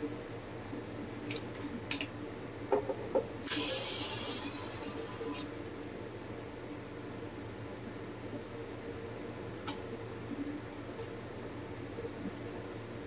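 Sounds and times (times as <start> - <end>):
space heater humming: 0.0 - 13.0.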